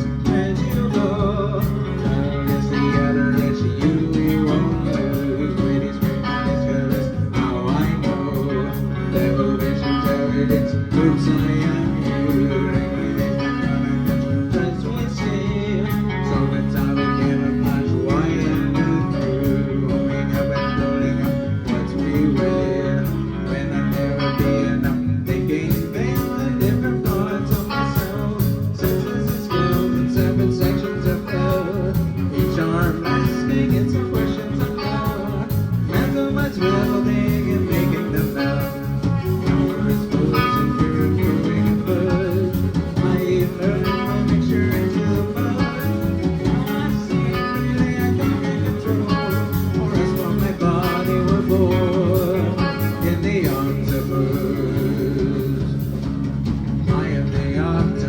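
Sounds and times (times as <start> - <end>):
live band guitar-led song: 0.0 - 58.0
steady drum beat: 0.0 - 58.0.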